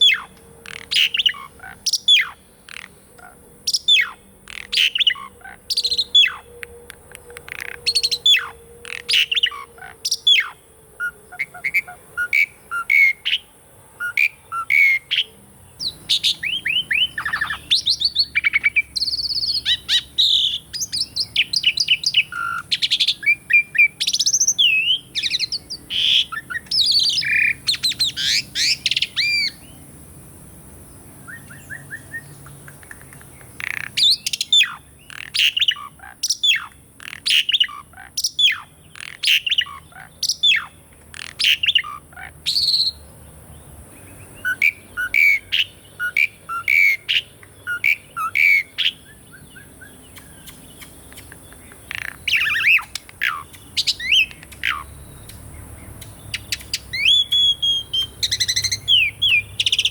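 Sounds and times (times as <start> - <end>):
starling singing: 0.0 - 29.8, 31.2 - 43.1, 44.0 - 59.9.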